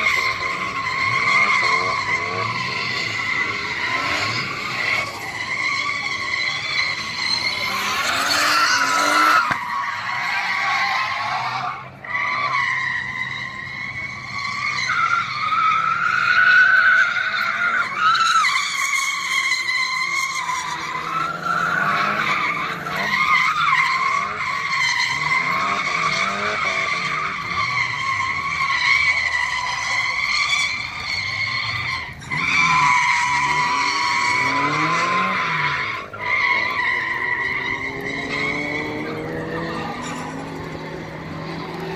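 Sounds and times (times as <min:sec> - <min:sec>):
car engine revving: 0:00.0 - 0:41.9
tyres squealing: 0:00.0 - 0:41.9.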